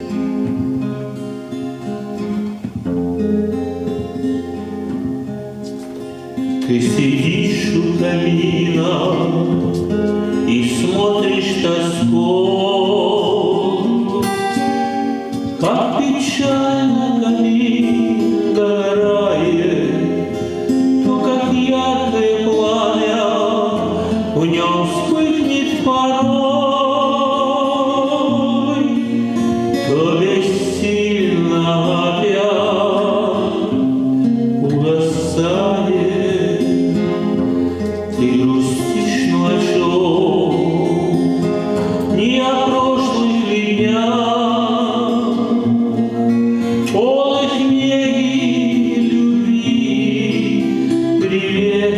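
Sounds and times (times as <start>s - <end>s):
guitar accompaniment: 0.0s - 51.9s
person singing with vibrato: 5.1s - 51.9s.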